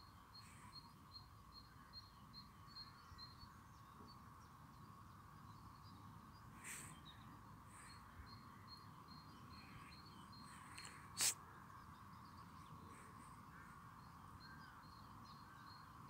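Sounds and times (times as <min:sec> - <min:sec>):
distant birds chirping: 0:00.0 - 0:16.0
faint steady hum: 0:00.0 - 0:16.0.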